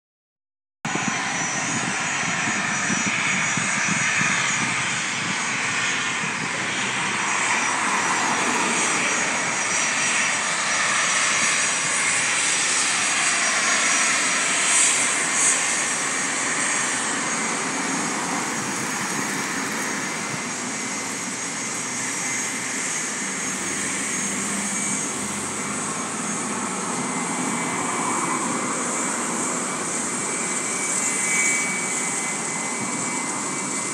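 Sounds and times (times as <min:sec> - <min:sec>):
jet engines running with high whine: 0:00.9 - 0:33.9.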